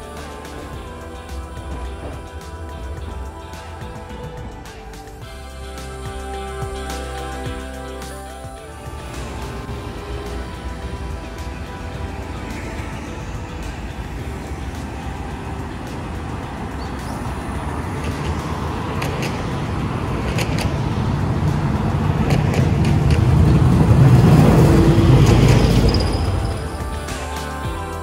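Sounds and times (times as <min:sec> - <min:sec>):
tram rumbling on tracks: 0:00.0 - 0:06.5, 0:08.6 - 0:27.3
road traffic passing: 0:00.0 - 0:28.0.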